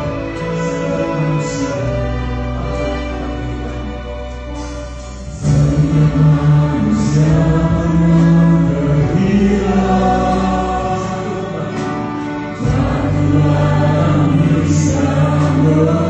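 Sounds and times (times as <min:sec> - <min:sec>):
group of singers: 0:00.0 - 0:16.0
strings saxophone and piano: 0:00.0 - 0:16.0.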